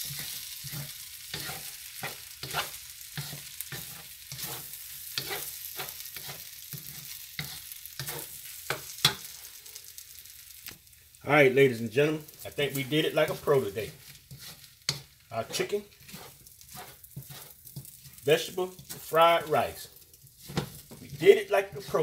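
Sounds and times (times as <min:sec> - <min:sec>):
wooden spatula scraping a wok: 0:00.0 - 0:10.0, 0:12.2 - 0:22.0
rice sizzling: 0:00.0 - 0:22.0.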